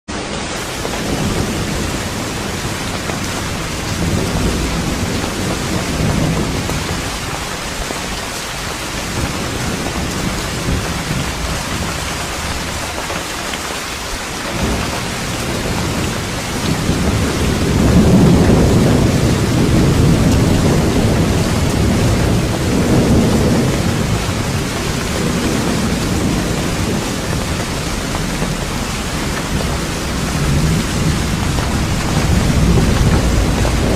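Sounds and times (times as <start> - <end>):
heavy rain: 0.1 - 33.9
rolling thunder: 0.6 - 13.0, 14.5 - 33.9.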